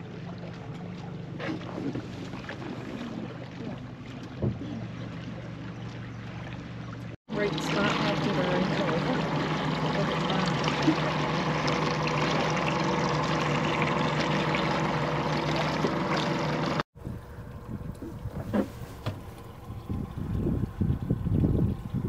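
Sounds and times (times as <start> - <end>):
boat motor running: 0.0 - 22.0
faint water sounds: 0.0 - 22.0
water rushing around hull: 0.0 - 22.0.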